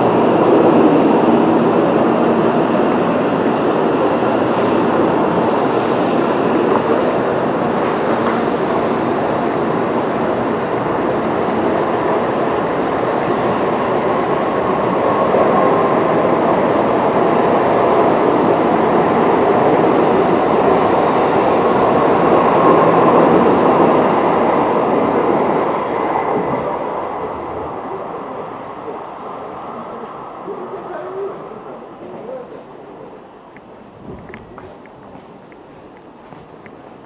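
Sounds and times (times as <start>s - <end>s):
train rushing: 0.0s - 37.0s.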